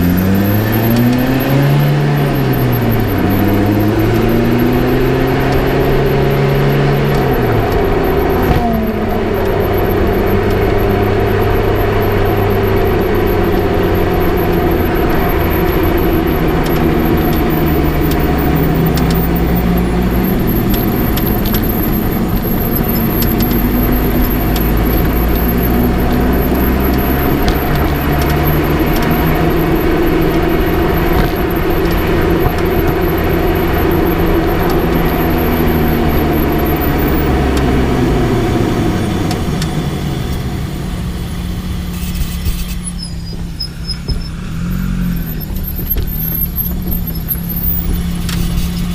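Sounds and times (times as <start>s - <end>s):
car engine running: 0.0s - 48.9s
road and tyre rumble: 0.0s - 48.9s.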